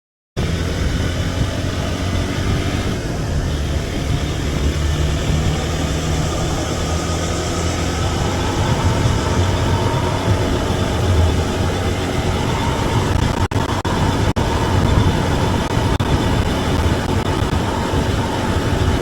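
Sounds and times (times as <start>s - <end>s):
motorcycle engine running: 0.4s - 19.0s
wind on microphone: 0.4s - 19.0s.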